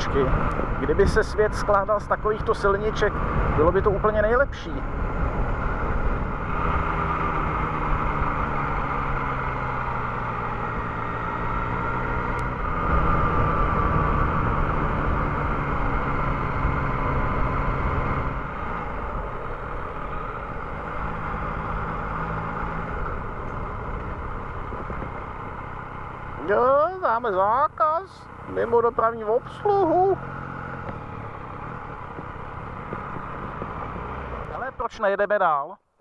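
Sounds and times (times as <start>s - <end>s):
motorcycle engine running: 0.0s - 35.0s
wind and road noise: 0.0s - 36.0s.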